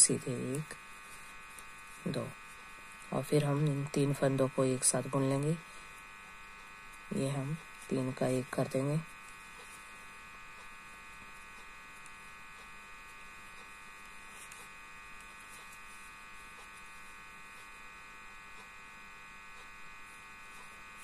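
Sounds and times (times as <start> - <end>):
faint electrical buzz: 0.0 - 21.0.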